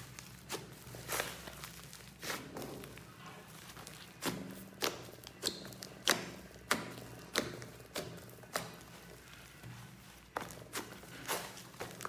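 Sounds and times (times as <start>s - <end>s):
slime squelching and popping: 0.0s - 12.0s.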